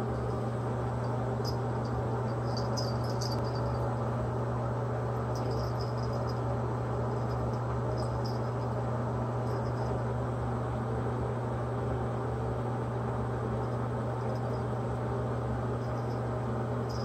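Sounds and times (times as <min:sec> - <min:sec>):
low hum: 0:00.0 - 0:10.2, 0:13.3 - 0:17.0.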